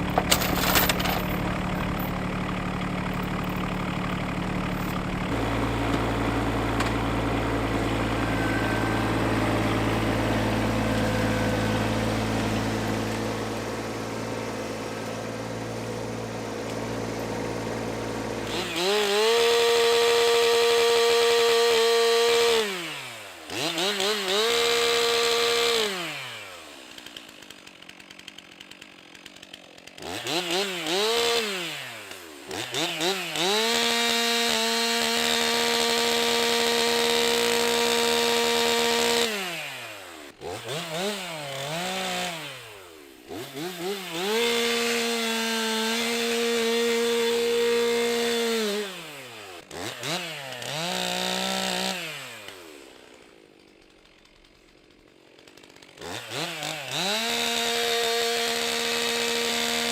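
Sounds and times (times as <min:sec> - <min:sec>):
chainsaw revving and cutting: 0:00.0 - 0:59.9.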